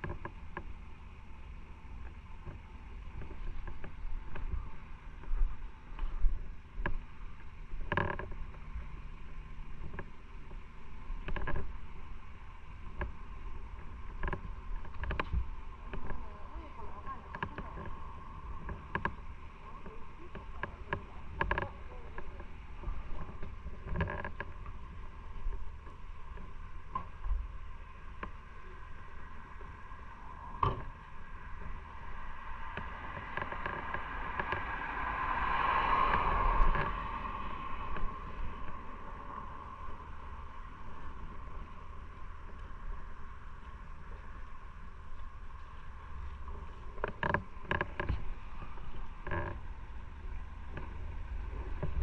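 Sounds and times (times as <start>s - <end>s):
motorcycle engine drone: 0.0s - 52.0s
wind noise: 2.4s - 52.0s.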